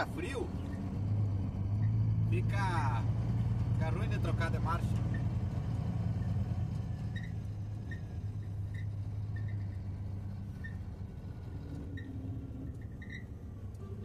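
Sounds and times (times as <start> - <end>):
diesel truck engine drone: 0.0 - 14.0.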